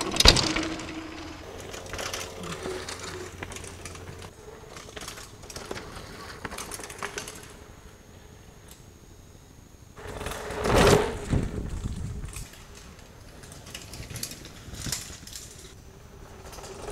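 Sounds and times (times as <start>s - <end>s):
bike rushing past: 0.0s - 7.6s, 10.0s - 16.9s
bike rattling and ticking: 0.0s - 7.9s, 10.0s - 16.9s.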